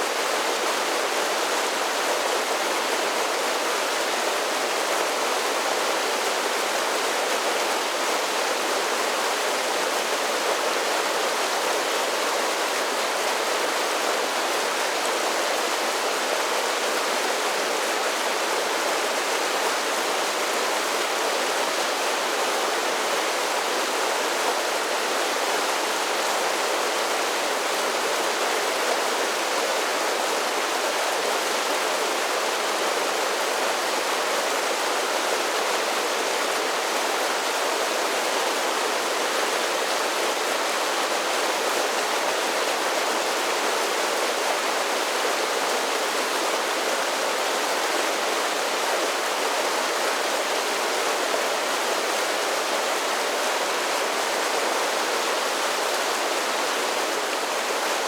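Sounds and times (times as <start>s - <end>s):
rushing falling water: 0.0s - 58.0s.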